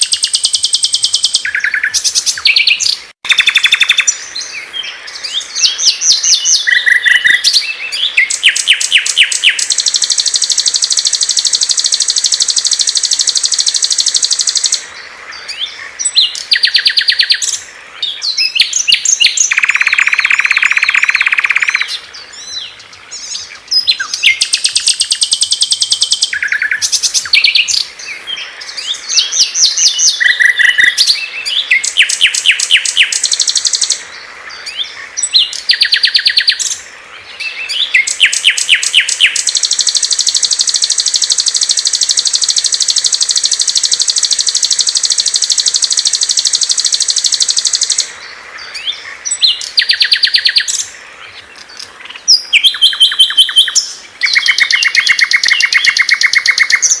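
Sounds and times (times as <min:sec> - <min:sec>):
songbirds singing trills: 0:00.0 - 0:57.0.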